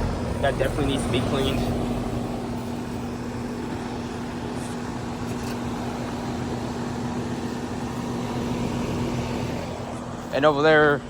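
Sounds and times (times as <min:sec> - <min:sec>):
compressor hum: 0:00.0 - 0:11.0
condenser fan whoosh: 0:00.0 - 0:11.0.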